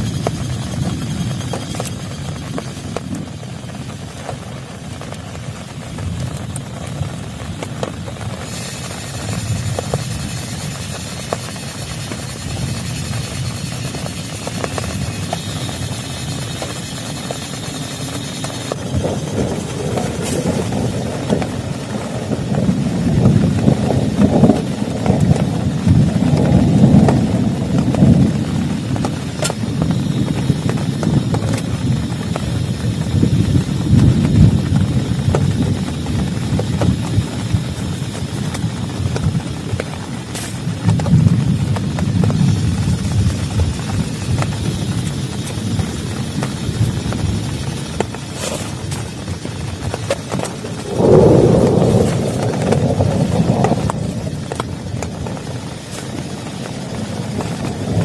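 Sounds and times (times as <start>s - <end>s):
deep rumble: 0.0s - 58.0s
heavy rain on plastic tarp: 0.0s - 58.0s.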